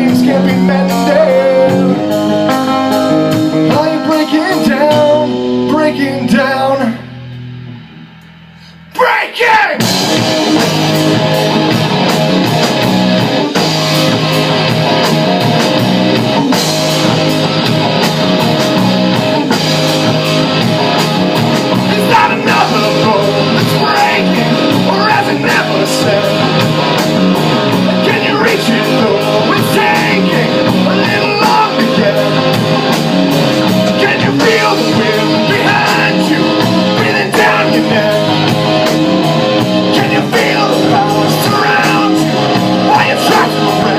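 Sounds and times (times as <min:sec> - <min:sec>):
loud rock music: 0:00.0 - 0:43.9.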